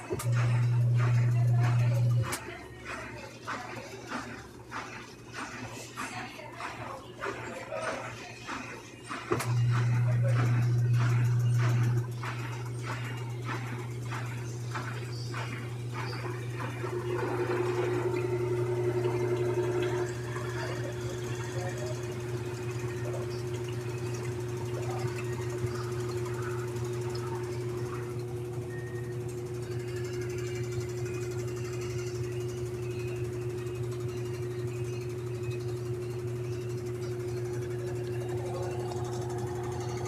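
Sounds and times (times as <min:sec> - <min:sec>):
washing machine spinning: 0:00.0 - 0:40.0.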